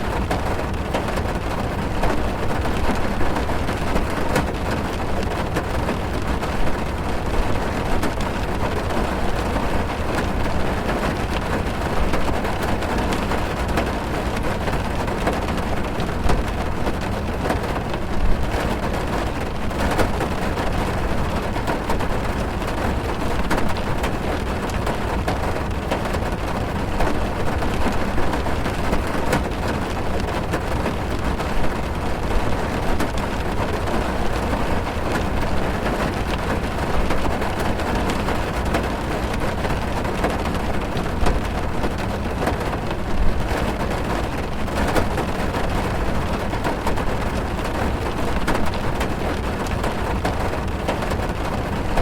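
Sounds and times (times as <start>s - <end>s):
rain pattering on a car: 0.0s - 52.0s.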